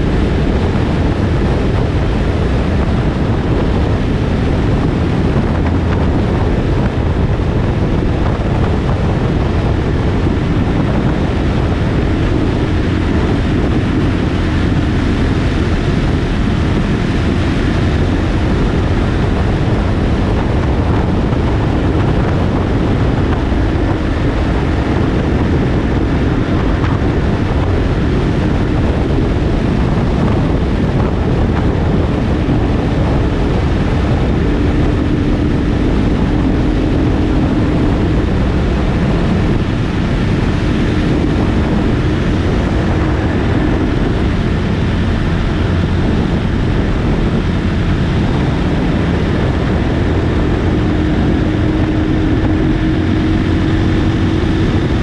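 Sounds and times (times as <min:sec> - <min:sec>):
motorcycle engine drone: 0:00.0 - 0:55.0
wind rush on microphone: 0:00.0 - 0:55.0.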